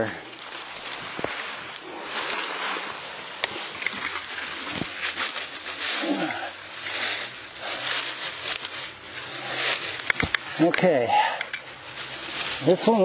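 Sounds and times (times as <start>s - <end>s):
footsteps crunching through dry leaves: 0.0s - 11.0s, 11.6s - 13.0s.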